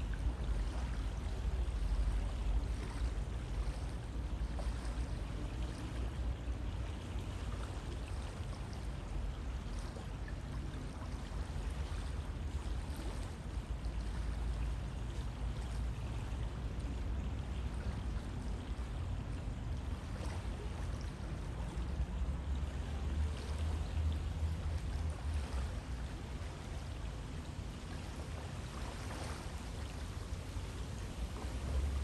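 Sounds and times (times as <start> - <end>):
faint splashes: 0.0 - 32.0
river water rushing: 0.0 - 32.0.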